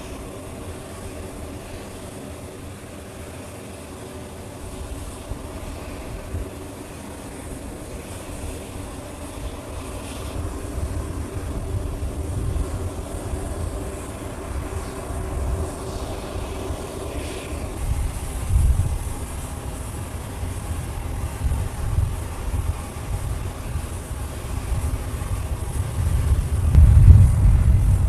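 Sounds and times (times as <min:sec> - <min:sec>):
aircraft engines rumbling: 0:00.0 - 0:28.0.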